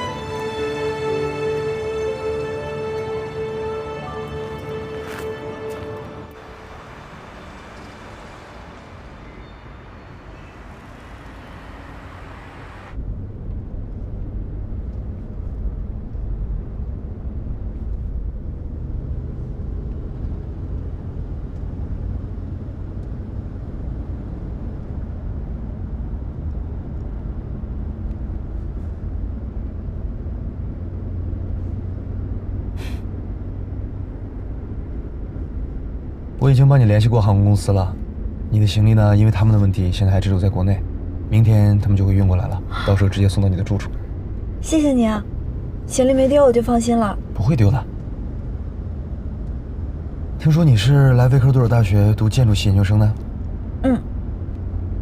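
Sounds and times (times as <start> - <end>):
car driving rumble: 0.0 - 55.0.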